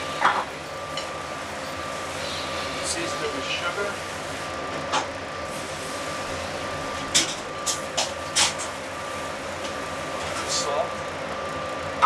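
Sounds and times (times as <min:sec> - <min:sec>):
gas range and exhaust hood rushing: 0:00.0 - 0:12.0.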